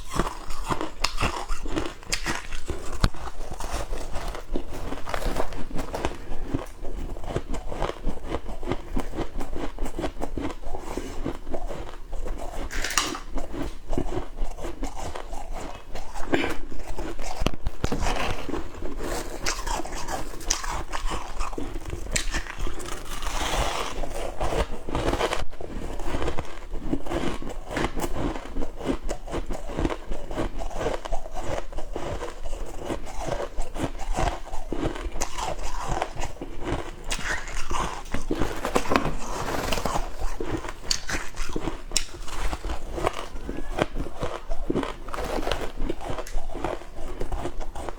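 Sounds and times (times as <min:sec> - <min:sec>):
chewing crunchy frost: 0:00.0 - 0:47.9.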